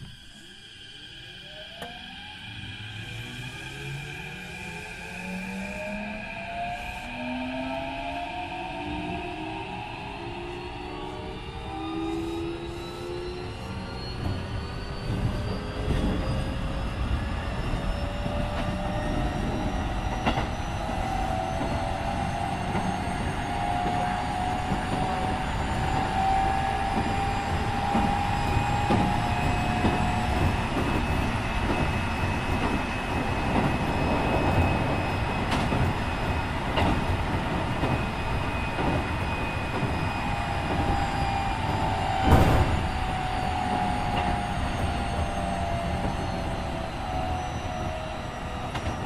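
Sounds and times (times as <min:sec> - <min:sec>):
wheels rumbling on rails: 0:08.6 - 0:49.0.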